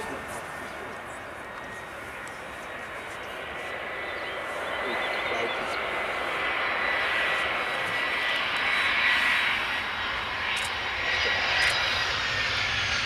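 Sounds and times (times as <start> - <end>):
jet engines running with high whine: 0.0 - 13.0.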